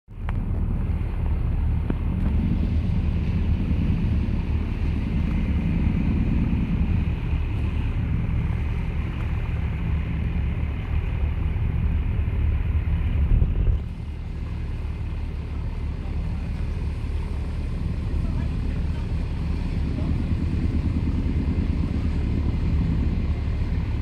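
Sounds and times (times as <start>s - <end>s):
boat engine rumbling: 0.1s - 24.0s.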